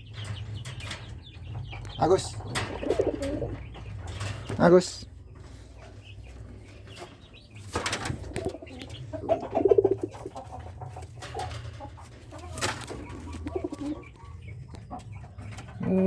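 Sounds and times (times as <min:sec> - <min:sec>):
pigeons cooing: 0:00.0 - 0:04.6, 0:05.2 - 0:16.0.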